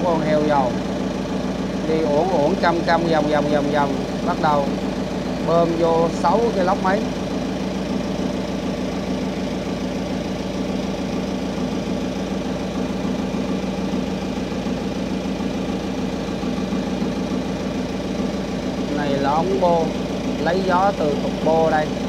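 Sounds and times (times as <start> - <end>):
generator engine droning: 0.0 - 22.0.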